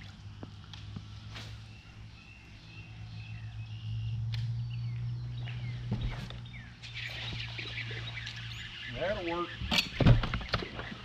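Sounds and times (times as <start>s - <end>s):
birds chirping and whistling: 0.2s - 11.0s.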